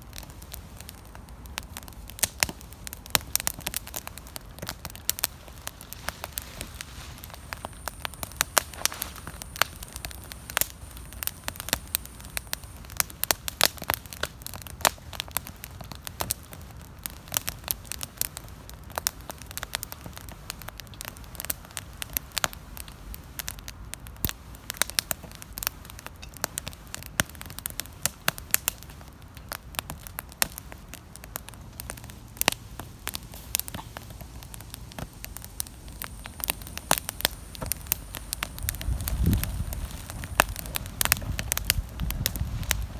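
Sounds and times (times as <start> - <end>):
campfire pops and snaps: 0.0 - 42.9
low rumble of burning: 0.0 - 42.9.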